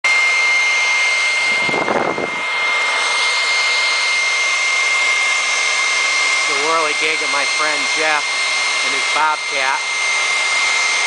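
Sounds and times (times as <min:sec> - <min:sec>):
leaf blower running: 0:00.0 - 0:11.0.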